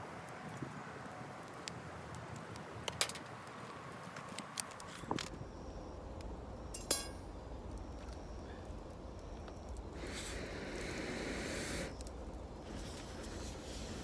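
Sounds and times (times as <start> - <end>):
campfire crackling and popping: 0.0 - 4.9, 7.6 - 14.0.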